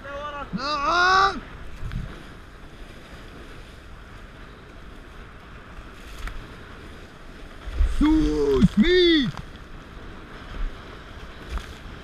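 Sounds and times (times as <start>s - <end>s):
water rushing along a hull: 0.0s - 12.0s
wind on microphone: 0.0s - 12.0s.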